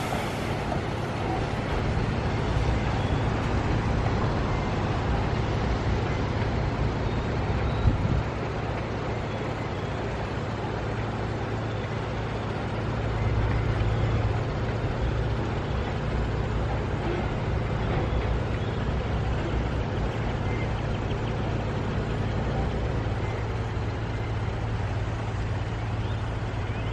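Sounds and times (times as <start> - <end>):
vehicle engine drone: 0.0 - 26.9.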